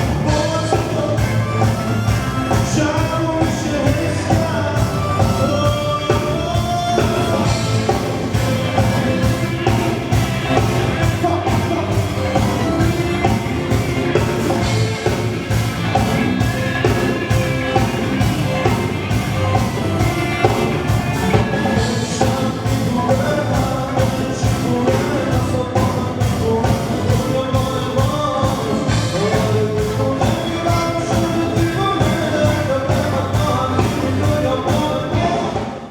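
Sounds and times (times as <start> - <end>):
live band playing up-tempo song: 0.0 - 35.9
steady drum beat: 0.0 - 35.9.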